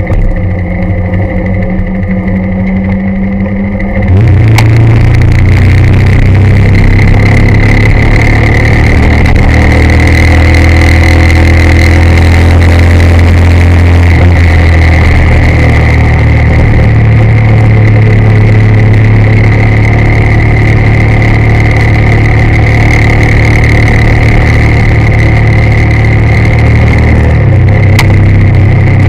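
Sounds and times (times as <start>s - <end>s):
motorcycle engine running: 0.0s - 29.0s
road and wind noise: 0.0s - 29.0s.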